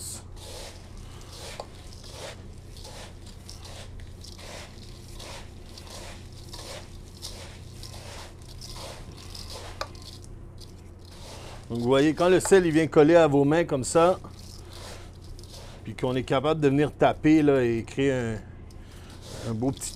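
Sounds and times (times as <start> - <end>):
hands kneading gritty salt paste: 0.0 - 13.2, 13.8 - 16.4, 18.9 - 19.9.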